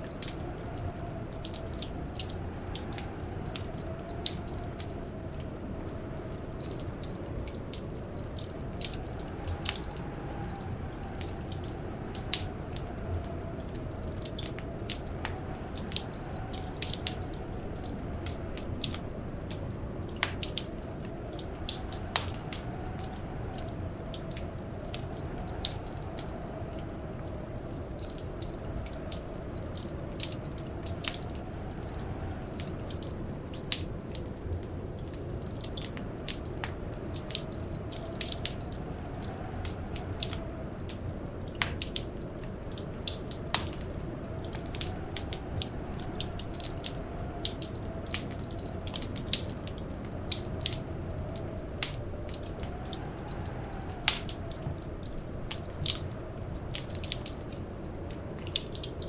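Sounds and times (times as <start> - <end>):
blizzard wind howling: 0.0 - 59.0
wood fire crackling: 0.0 - 59.0.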